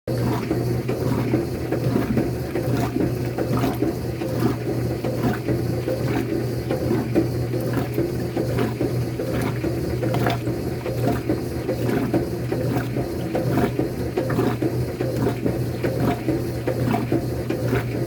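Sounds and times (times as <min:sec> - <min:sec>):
agitator stroke: 0:00.1 - 0:18.0
churning water: 0:00.1 - 0:18.0
washing machine motor hum: 0:00.1 - 0:18.0.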